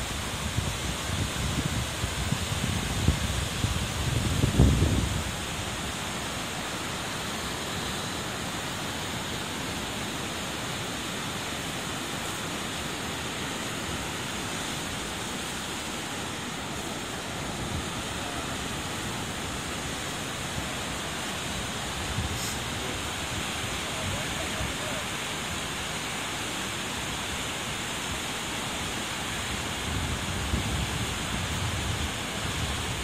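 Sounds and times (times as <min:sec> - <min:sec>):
river rushing over a weir: 0:00.0 - 0:33.0.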